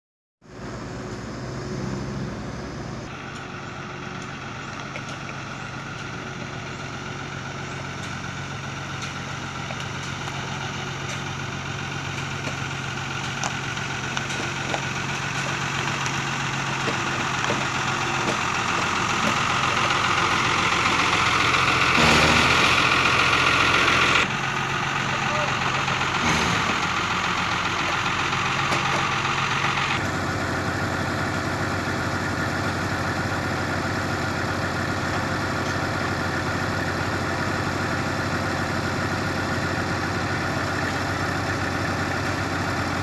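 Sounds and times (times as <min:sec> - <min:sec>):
truck engine running: 0:00.4 - 0:43.0.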